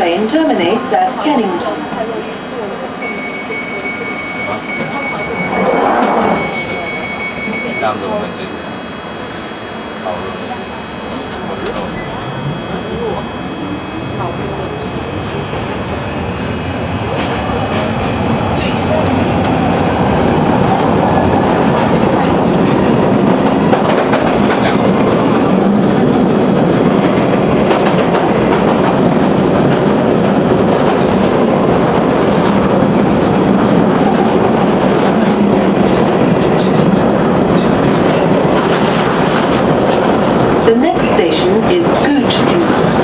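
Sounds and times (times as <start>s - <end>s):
train wheels on rail: 0.0s - 43.0s.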